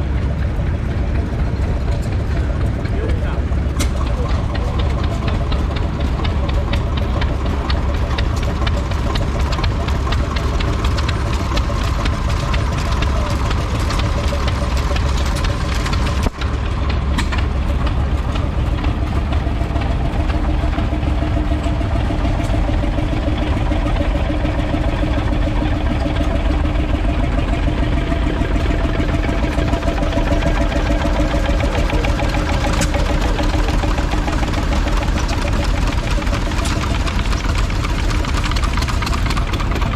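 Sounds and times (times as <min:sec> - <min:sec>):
stationary engine clattering: 0:00.0 - 0:39.9.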